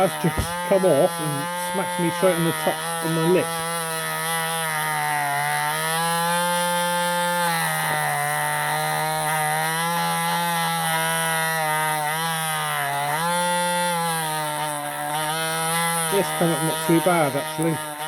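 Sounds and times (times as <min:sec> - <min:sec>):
rotary tool wire brush whine: 0:00.0 - 0:18.0.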